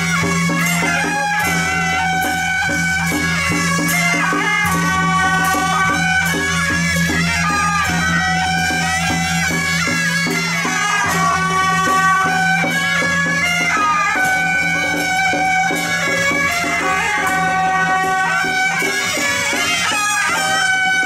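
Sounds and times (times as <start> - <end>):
steady percussion beat: 0.0 - 21.0.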